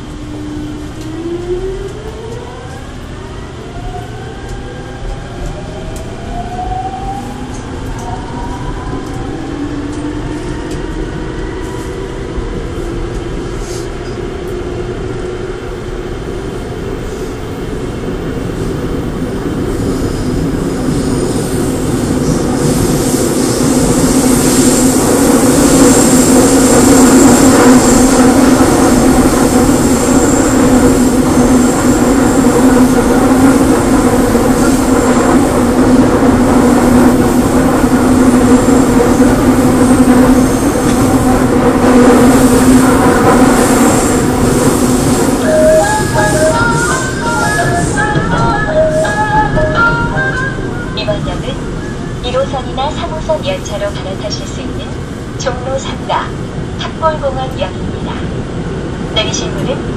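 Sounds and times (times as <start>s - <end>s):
train car rumbling: 0.0s - 59.9s.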